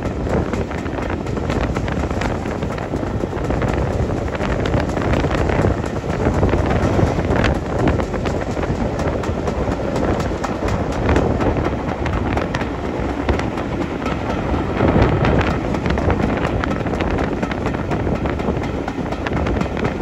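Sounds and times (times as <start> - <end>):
train rumbling with clicks: 0.0 - 20.0
wind noise on microphone: 0.0 - 20.0.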